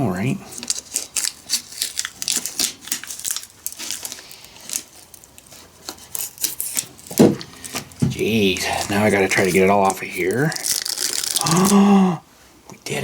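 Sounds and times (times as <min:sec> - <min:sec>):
plastic packaging crinkling and tearing: 0:00.4 - 0:11.9.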